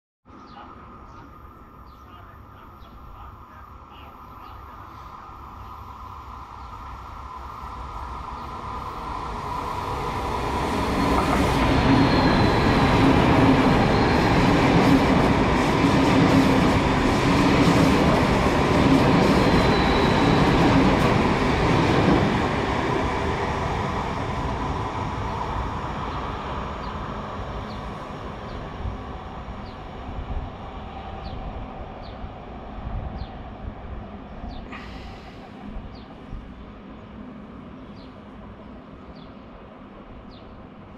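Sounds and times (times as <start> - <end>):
high-speed train passing: 0.5 - 40.9.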